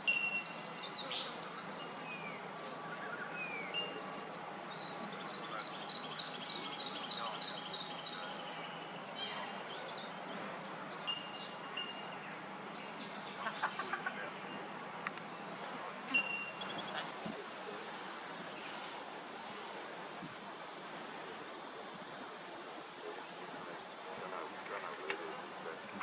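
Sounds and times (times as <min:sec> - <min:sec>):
small birds chirping: 0:00.0 - 0:26.0
steady background hiss: 0:00.0 - 0:26.0.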